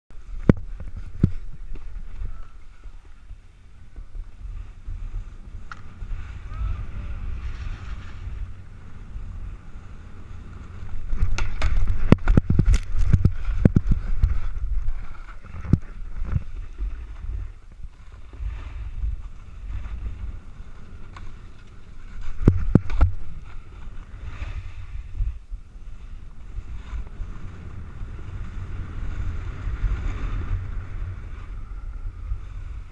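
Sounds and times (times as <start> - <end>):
snowboard scraping over snow: 0.1 - 32.9
wind buffeting microphone: 0.1 - 32.9.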